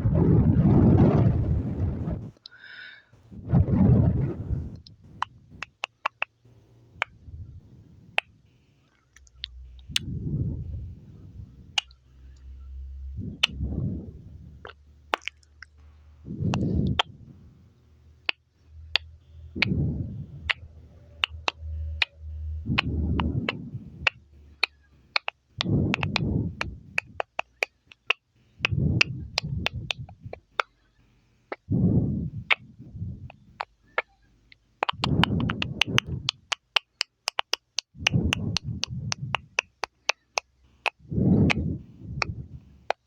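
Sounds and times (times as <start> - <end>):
soft muffled low sound: 0.0 - 5.8, 6.4 - 27.3, 28.4 - 36.5, 37.9 - 39.9, 40.5 - 43.0
wet mouth clicks: 3.8 - 7.2, 8.0 - 12.5, 13.1 - 17.2, 18.2 - 30.8, 31.5 - 43.0.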